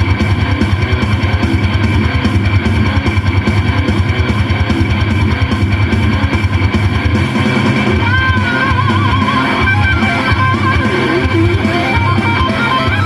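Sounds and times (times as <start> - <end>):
rock music through car stereo: 0.0 - 13.0.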